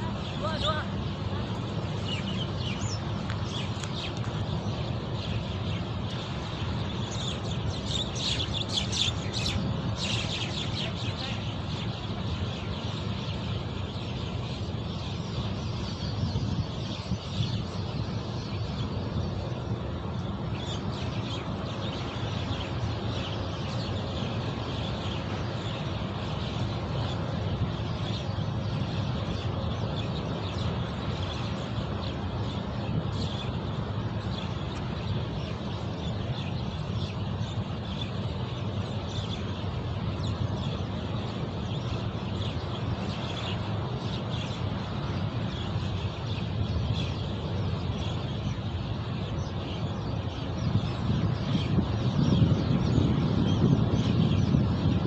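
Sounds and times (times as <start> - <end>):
bird chirps and calls: 0.0 - 55.0.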